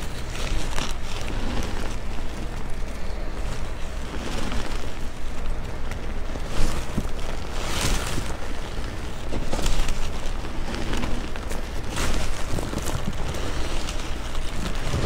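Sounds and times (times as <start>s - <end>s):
chalk crunching in a hand: 0.0s - 15.0s.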